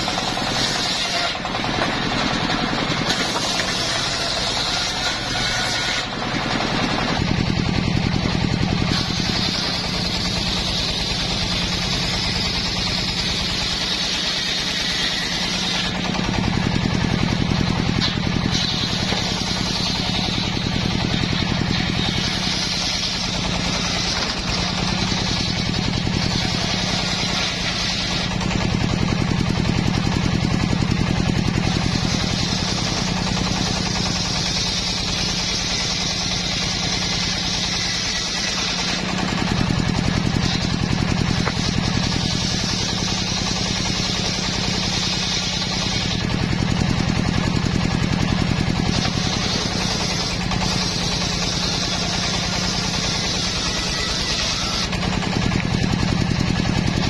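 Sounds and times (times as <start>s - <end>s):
saw cutting wood hiss: 0.0s - 7.2s, 8.6s - 30.0s, 31.0s - 56.0s
saw blade humming: 0.0s - 57.0s.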